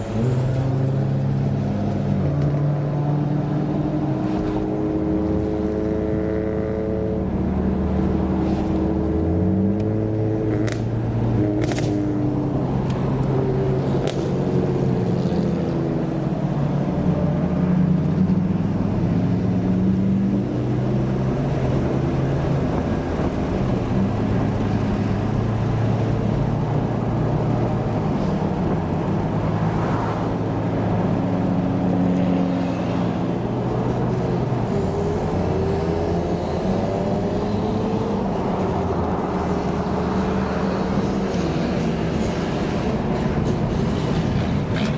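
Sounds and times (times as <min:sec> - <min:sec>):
car engines droning: 0:00.0 - 0:44.9.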